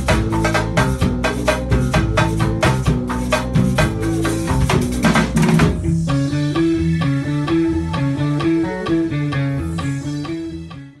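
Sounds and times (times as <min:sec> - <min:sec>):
drums and percussion: 0:00.0 - 0:10.5
electric bass groove: 0:00.0 - 0:11.0.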